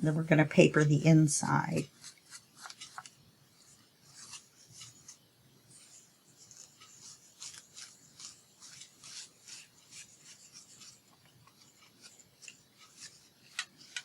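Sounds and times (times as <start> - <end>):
rubbing strokes on paper: 1.4 - 14.0.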